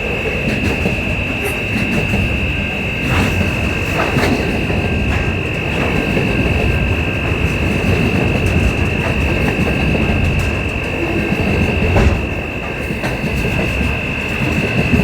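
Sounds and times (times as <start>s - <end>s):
clicks of train wheels: 0.0s - 15.0s
high-pitched whine: 0.0s - 15.0s
train rumbling on rails: 0.0s - 15.0s.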